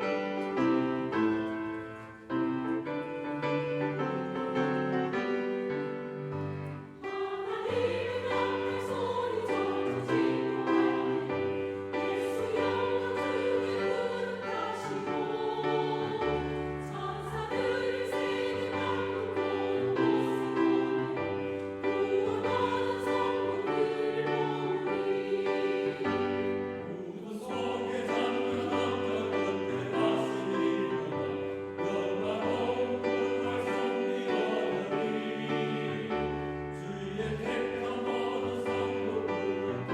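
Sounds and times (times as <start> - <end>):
church choir singing: 0.0 - 39.9.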